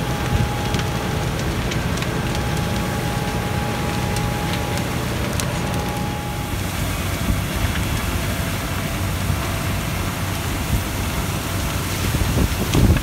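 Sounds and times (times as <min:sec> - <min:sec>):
fire hose spraying water: 0:00.0 - 0:13.0
low rumble: 0:00.0 - 0:13.0.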